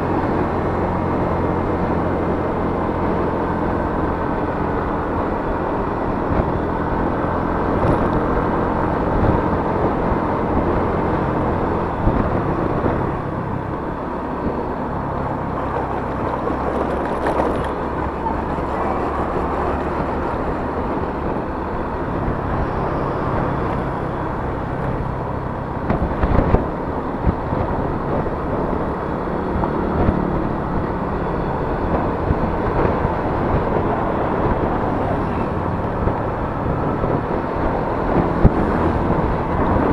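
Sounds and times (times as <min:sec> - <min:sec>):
road noise: 0:00.0 - 0:39.9
scooter engine running: 0:00.0 - 0:39.9.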